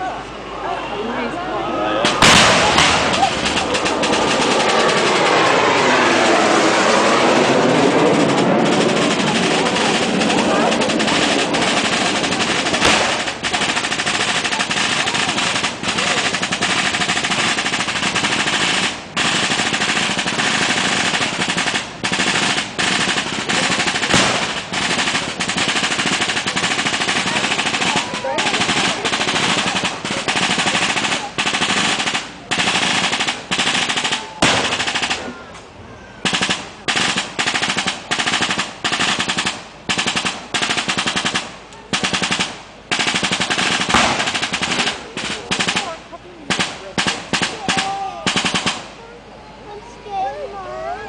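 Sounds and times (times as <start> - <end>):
machine-gun fire: 2.0 - 35.4, 36.2 - 49.0
sharp bang: 2.0 - 35.5, 36.2 - 48.9.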